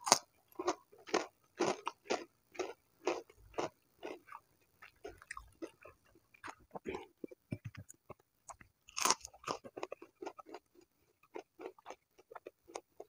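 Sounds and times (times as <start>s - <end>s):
crunchy chewing: 0.0s - 13.0s.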